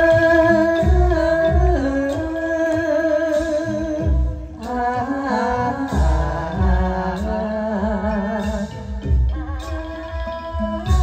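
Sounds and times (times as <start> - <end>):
backing music with drum beat: 0.0 - 11.0
person singing long notes: 0.0 - 11.0.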